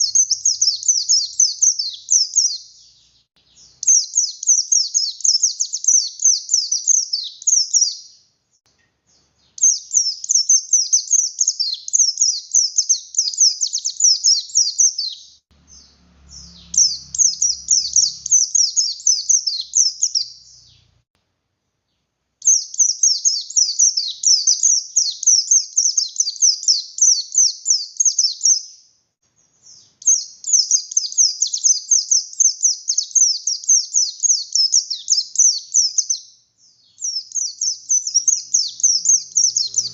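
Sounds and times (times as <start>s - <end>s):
bird singing high-pitched bursts: 0.0s - 8.2s, 9.2s - 21.0s, 22.4s - 28.8s, 29.6s - 39.9s.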